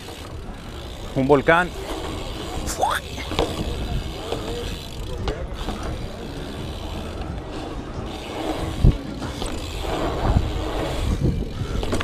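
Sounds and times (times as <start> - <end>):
bike rattling: 0.0 - 12.0
bike thudding on ramps: 0.0 - 12.0
bike tyres rumbling on concrete: 0.0 - 12.0.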